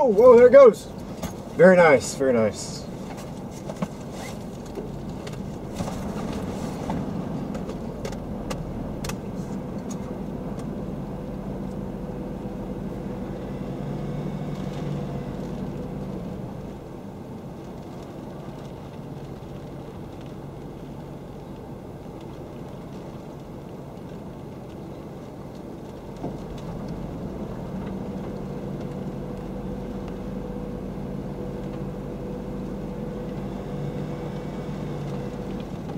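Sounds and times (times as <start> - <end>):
car engine hum: 0.0 - 35.9.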